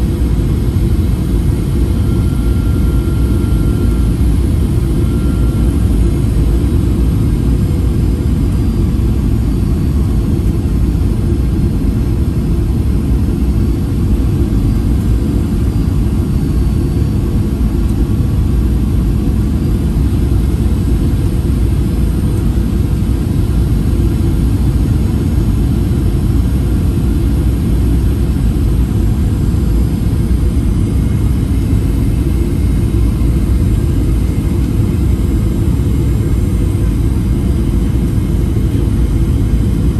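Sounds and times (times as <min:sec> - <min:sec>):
aircraft cabin engine rumble: 0:00.0 - 0:39.9
airflow over fuselage: 0:00.0 - 0:39.9.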